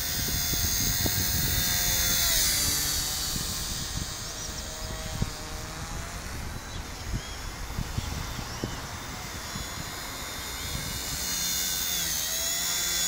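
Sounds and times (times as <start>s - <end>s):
wind rumble on microphone: 0.0s - 12.1s
rc helicopter motor whine: 0.0s - 13.0s.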